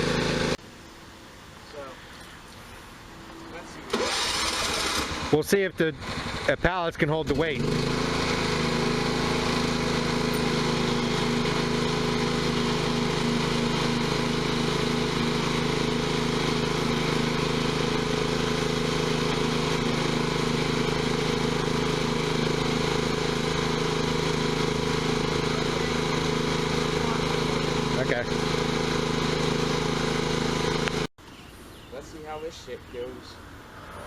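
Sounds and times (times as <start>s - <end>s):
tractor engine running: 0.0s - 0.6s, 3.3s - 31.1s.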